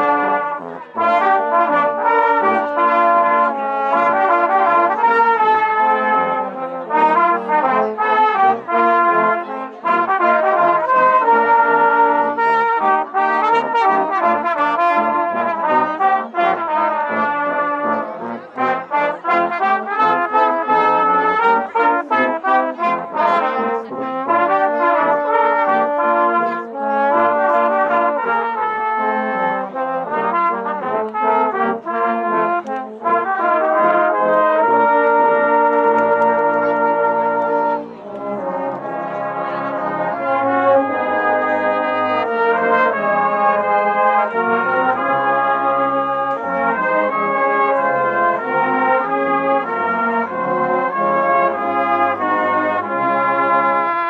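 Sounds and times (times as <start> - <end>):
brass instruments playing a tune: 0.0 - 54.0.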